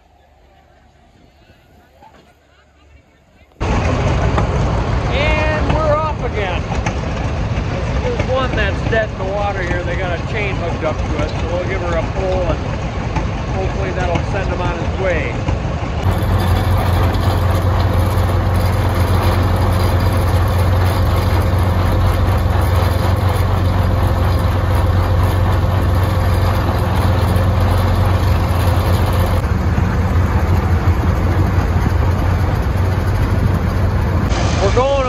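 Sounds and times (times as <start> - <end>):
tractor engine droning: 0.0 - 35.0.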